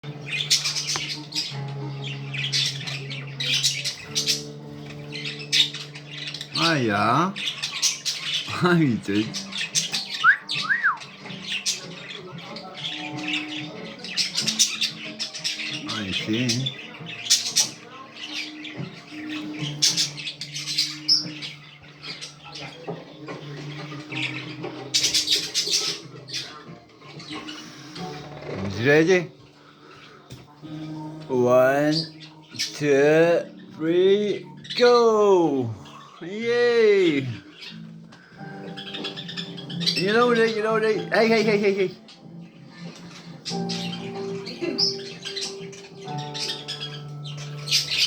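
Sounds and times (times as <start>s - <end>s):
budgies chattering and squawking: 0.0s - 48.0s.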